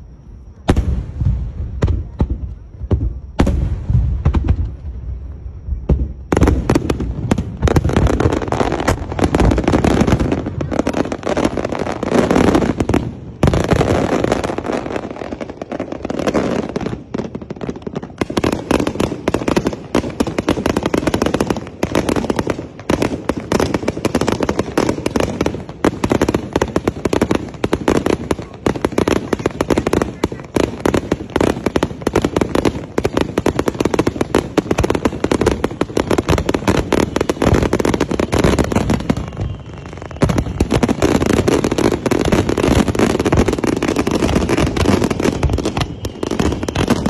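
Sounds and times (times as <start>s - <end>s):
fireworks booming: 0.0s - 47.0s
fireworks crackling and popping: 0.0s - 47.0s.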